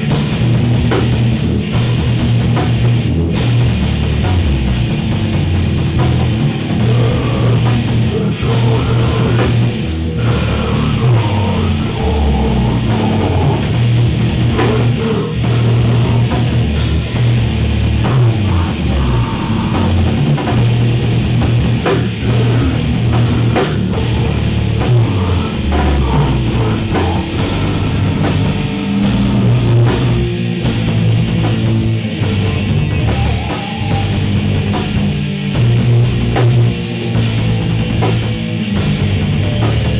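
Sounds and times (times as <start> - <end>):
live heavy rock band: 0.0 - 39.9.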